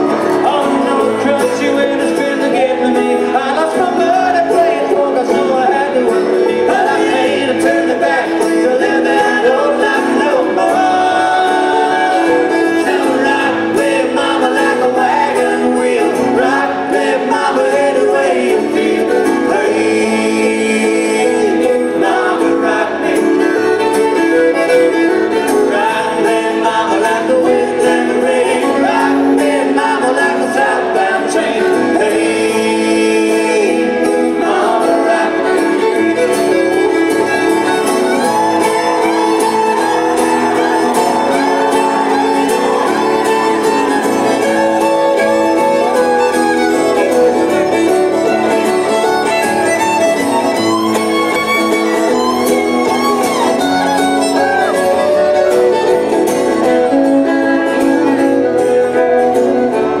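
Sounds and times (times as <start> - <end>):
acoustic guitars: 0.0 - 60.0
banjo: 0.0 - 60.0
fiddle: 0.0 - 60.0
person singing: 0.0 - 60.0.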